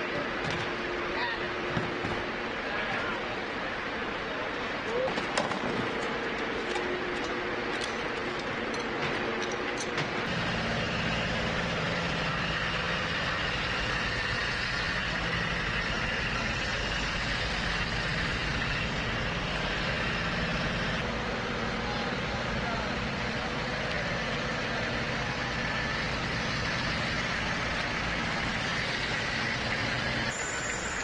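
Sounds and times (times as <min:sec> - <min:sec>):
heavy vehicle engine idling: 0:05.8 - 0:31.0.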